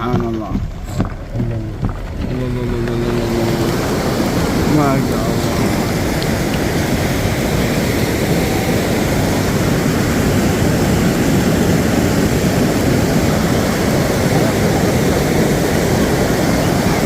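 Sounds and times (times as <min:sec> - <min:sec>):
rushing flood torrent: 0:00.0 - 0:17.0.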